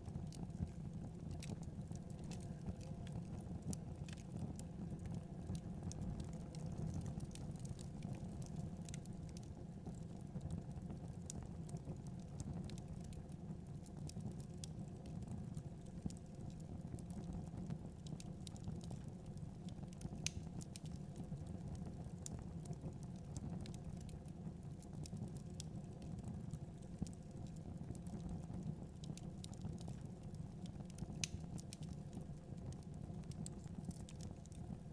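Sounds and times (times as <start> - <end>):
low fire rumble: 0.0 - 34.9
wood fire crackling: 0.0 - 34.9.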